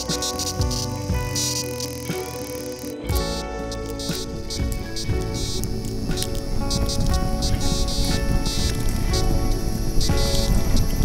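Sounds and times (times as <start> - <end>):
sustained held tones: 0.0 - 10.8
short bursts of hiss: 0.0 - 11.0.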